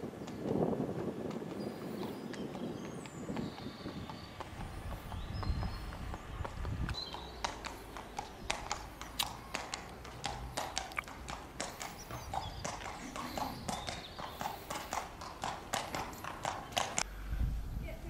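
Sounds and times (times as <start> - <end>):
footsteps of hard shoes on tarmac: 0.2 - 17.0.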